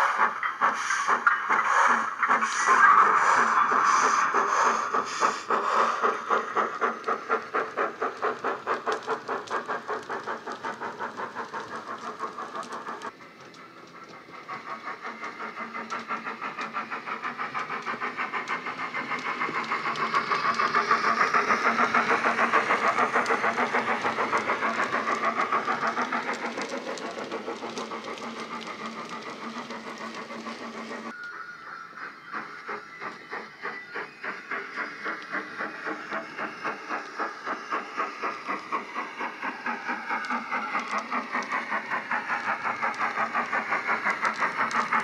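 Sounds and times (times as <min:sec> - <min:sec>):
steam locomotive chuffs from speakers: 0:00.0 - 0:45.0.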